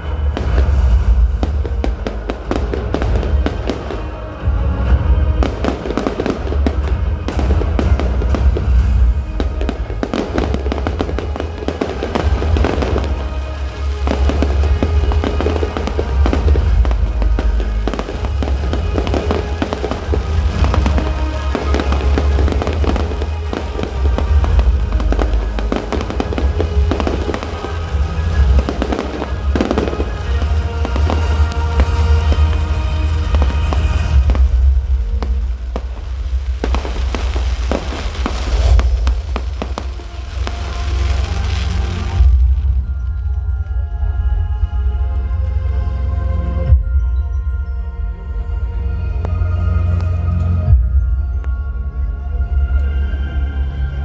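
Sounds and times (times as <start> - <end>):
fireworks bursting and crackling: 0.0 - 43.8.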